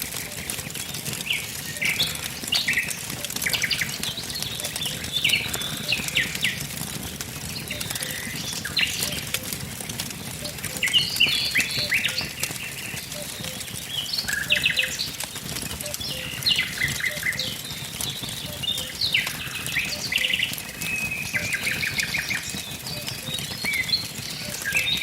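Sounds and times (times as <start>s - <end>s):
small birds chirping: 0.0s - 25.0s
wood fire crackling and popping: 0.0s - 25.0s.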